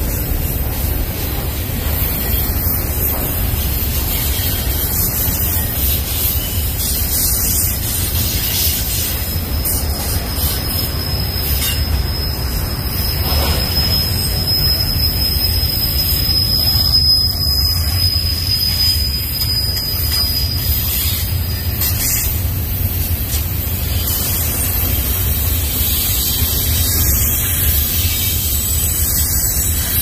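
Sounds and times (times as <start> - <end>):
high-pitched wheel squeal: 0.0 - 30.0
train rumbling on rails: 0.0 - 30.0.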